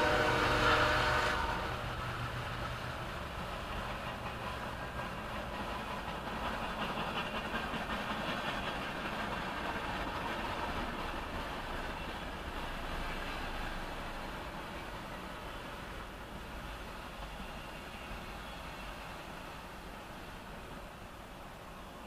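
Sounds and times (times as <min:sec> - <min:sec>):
faint rhythmic rail clatter: 0:00.0 - 0:22.0
train wheels on rails: 0:00.0 - 0:22.0.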